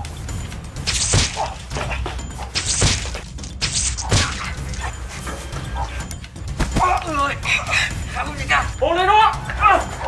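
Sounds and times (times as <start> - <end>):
low background music: 0.0 - 10.0.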